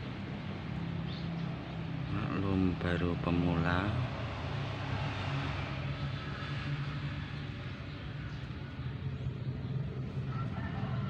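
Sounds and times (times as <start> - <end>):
continuous background noise: 0.0 - 11.0
low engine hum: 0.0 - 11.0.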